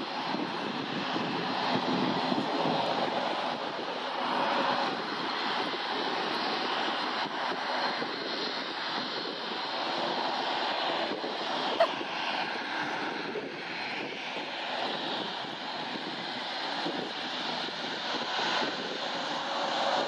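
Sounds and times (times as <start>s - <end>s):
distant jet engines taxiing: 0.0s - 20.0s.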